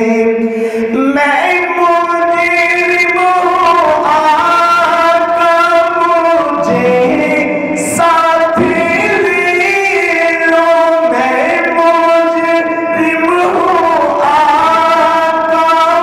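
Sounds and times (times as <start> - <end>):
man singing devotional song: 0.0 - 16.0.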